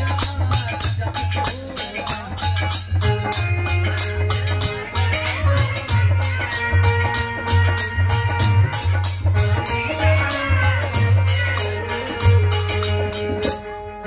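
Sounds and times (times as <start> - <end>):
hand drum beating a rhythm: 0.0 - 13.6
hand cymbals clashing: 0.0 - 13.7
harmonium chords: 0.0 - 14.0.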